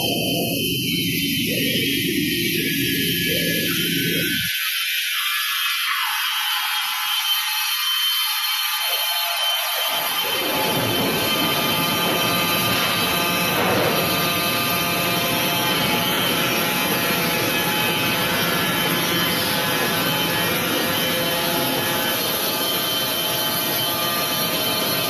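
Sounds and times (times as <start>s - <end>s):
band saw machine whining: 0.0s - 4.6s, 6.3s - 25.0s.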